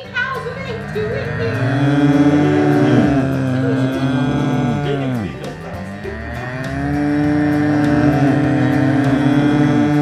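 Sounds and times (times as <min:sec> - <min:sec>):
cows mooing: 0:00.0 - 0:10.0.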